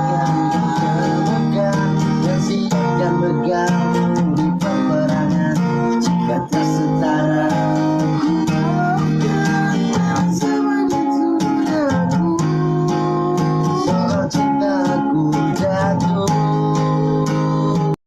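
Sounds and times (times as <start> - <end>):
acoustic guitar strumming: 0.0 - 18.0
person singing: 0.0 - 18.0.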